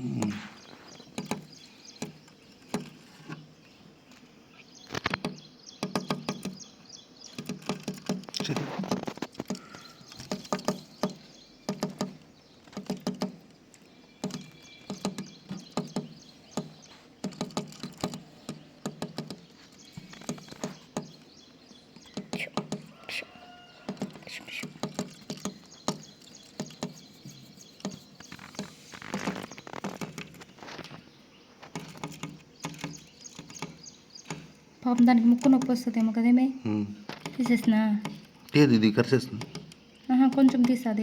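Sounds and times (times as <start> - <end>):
faint bird chirps: 0.0 - 41.0
bird pecking with beak: 0.1 - 3.5, 4.1 - 6.6, 7.3 - 31.0, 31.6 - 36.2, 37.0 - 38.6, 39.2 - 41.0.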